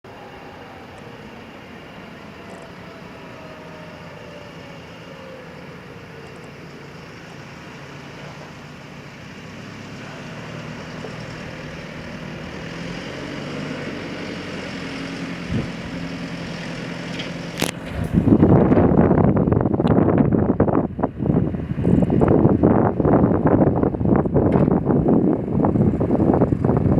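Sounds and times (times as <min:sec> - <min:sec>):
heavy machine engine running: 0:00.1 - 0:26.9
wind buffeting microphone: 0:00.1 - 0:26.9.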